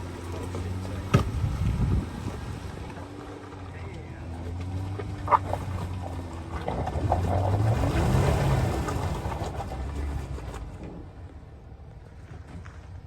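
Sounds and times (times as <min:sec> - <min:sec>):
off-road vehicle engine revving: 0:00.0 - 0:12.7.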